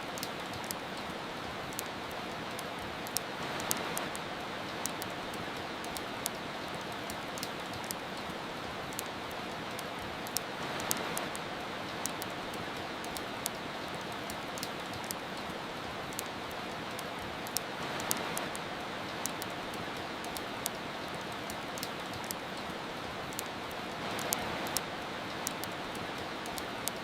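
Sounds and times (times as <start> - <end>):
soft rain hiss: 0.0 - 27.0
wood fire crackling: 0.1 - 27.0.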